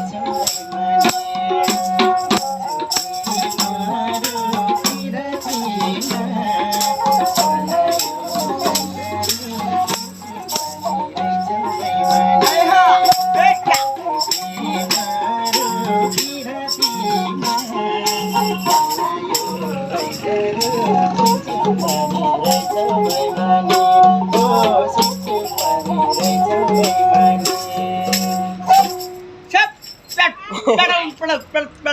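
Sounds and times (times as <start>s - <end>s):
madal drum beat: 0.0s - 29.2s
person singing: 0.0s - 29.3s
sarangi melody: 0.0s - 30.2s
jingling rattle shaken: 0.4s - 23.4s, 24.4s - 30.3s.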